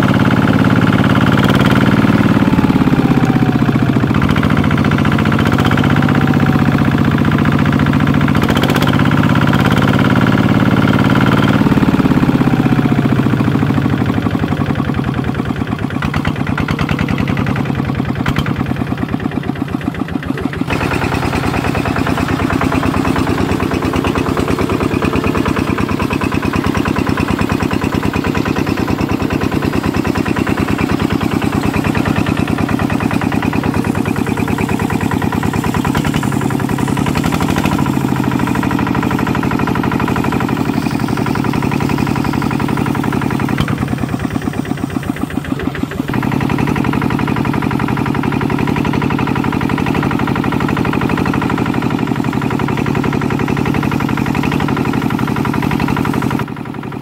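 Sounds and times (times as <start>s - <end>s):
power tiller engine chugging: 0.0s - 57.0s.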